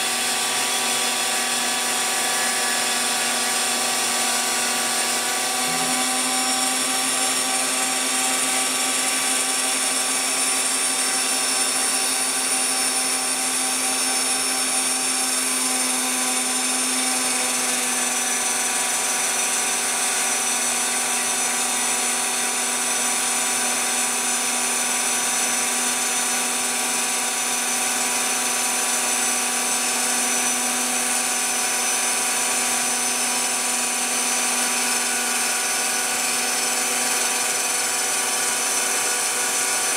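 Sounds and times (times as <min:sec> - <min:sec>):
router spindle motor whining: 0:00.0 - 0:39.9.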